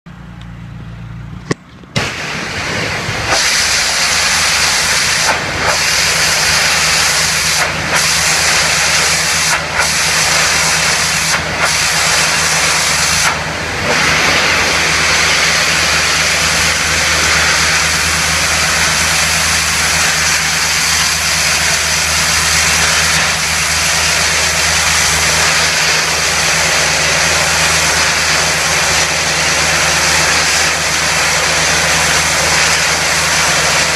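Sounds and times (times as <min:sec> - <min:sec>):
engine hum: 0:00.1 - 0:33.9
pressure washer spraying: 0:02.0 - 0:33.9.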